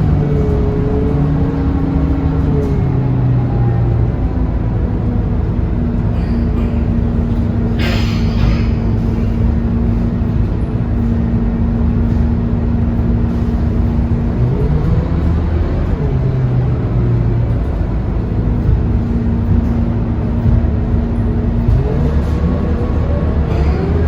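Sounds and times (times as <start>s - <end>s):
bus engine humming: 0.0s - 24.0s.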